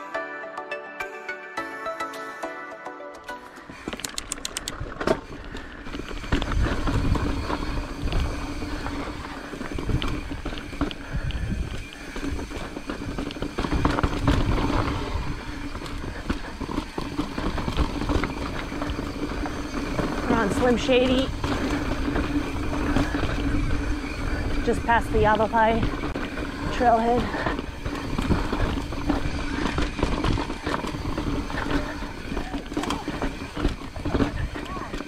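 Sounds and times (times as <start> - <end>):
bike rattling clicks: 3.7 - 35.0
wind buffeting microphone: 4.5 - 35.0
tyres rumbling over rock: 5.0 - 35.0.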